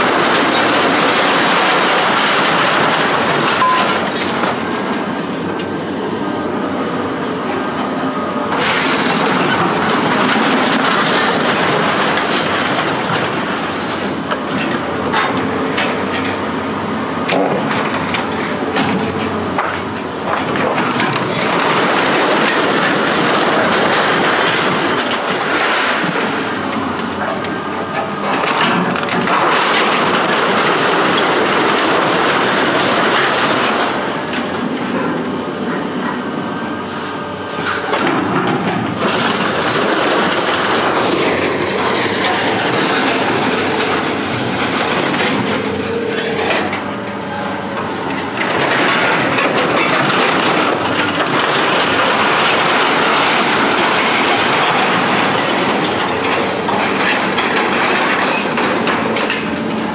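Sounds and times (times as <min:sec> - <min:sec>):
scrap metal rattling and clanking: 0:00.0 - 0:05.5, 0:08.5 - 0:16.4, 0:17.3 - 0:36.2, 0:37.6 - 0:59.9.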